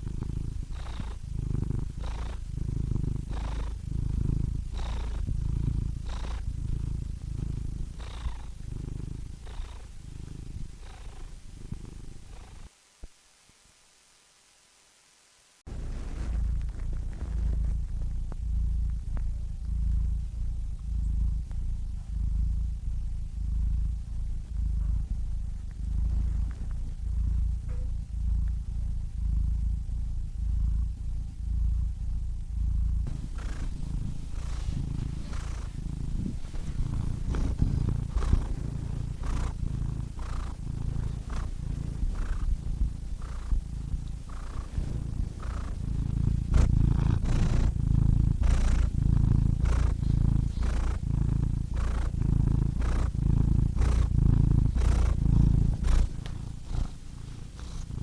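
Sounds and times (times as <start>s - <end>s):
cat purring: 0.0s - 13.6s, 15.6s - 58.0s.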